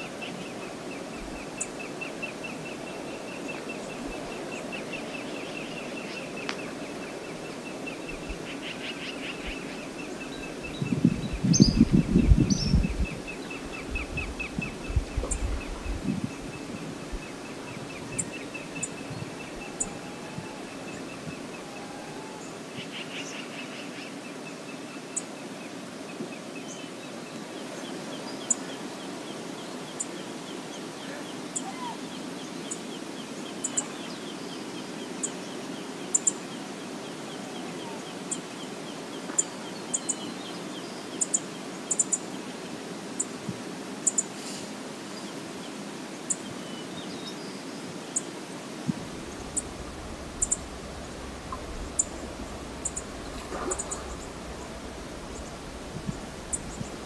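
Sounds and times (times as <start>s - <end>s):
river water flowing: 0.0s - 10.8s, 13.1s - 57.0s.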